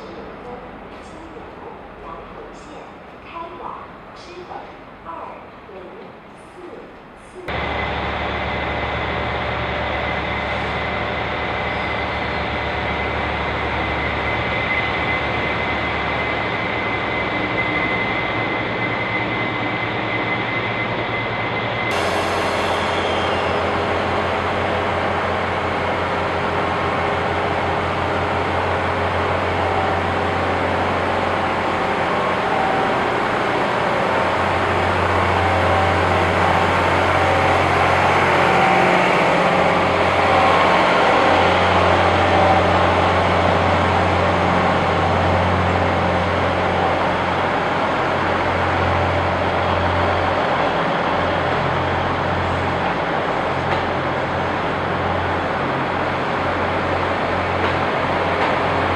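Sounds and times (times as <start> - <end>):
diesel train engines droning: 0.0 - 58.9.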